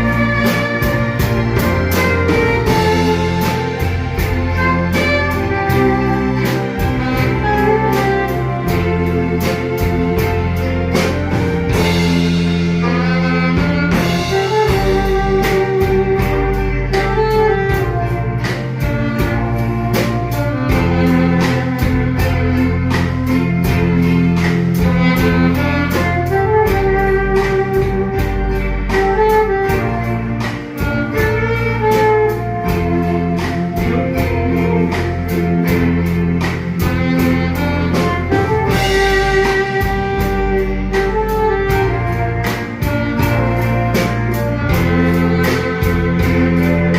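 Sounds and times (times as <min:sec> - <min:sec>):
bass guitar: 0:00.0 - 0:46.9
drum kit beat: 0:00.0 - 0:46.9
electric guitar: 0:00.0 - 0:46.9
keyboard: 0:00.0 - 0:46.9
saxophone melody: 0:00.0 - 0:46.9.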